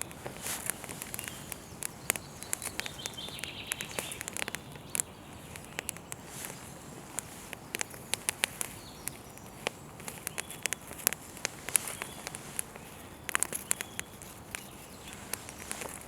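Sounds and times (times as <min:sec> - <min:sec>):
campfire crackling and popping: 0:00.0 - 0:16.0
faint steady hiss: 0:00.0 - 0:16.0.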